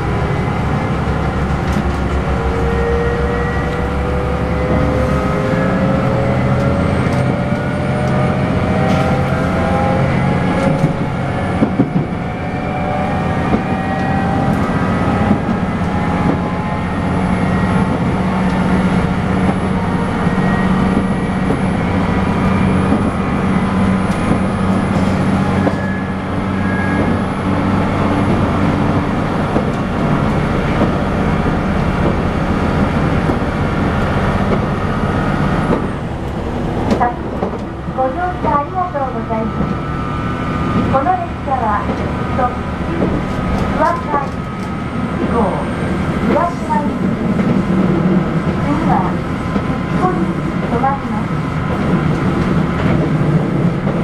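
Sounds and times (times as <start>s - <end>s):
rail running noise: 0.0s - 54.0s
train engine drone with whine: 0.0s - 54.0s.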